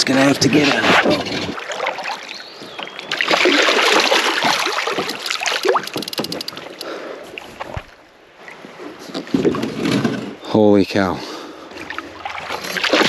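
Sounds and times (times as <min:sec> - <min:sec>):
creek water splashing: 0:00.0 - 0:09.9, 0:11.3 - 0:13.0.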